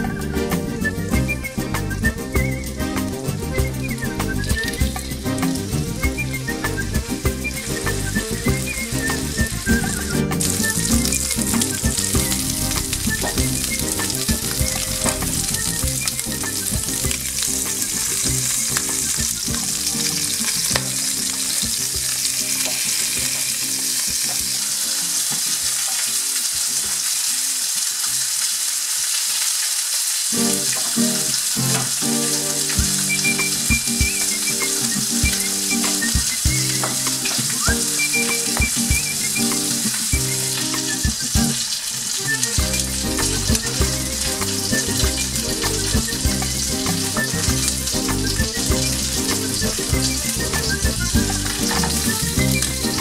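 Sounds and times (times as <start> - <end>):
background music: 0.0 - 25.9, 30.4 - 53.0
chicken sizzling in oil: 0.0 - 53.0.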